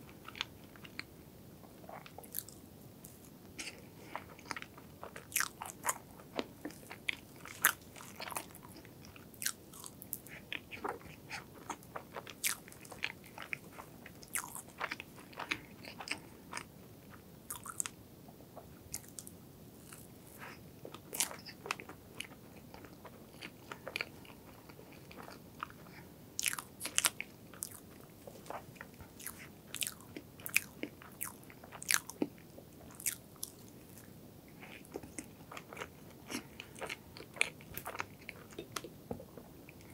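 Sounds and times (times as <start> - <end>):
chewing soft cake: 0.0 - 39.9.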